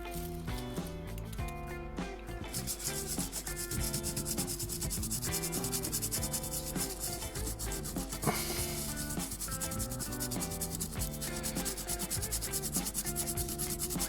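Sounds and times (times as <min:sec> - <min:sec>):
background music: 0:00.0 - 0:14.0
fast rubbing strokes: 0:02.5 - 0:14.0.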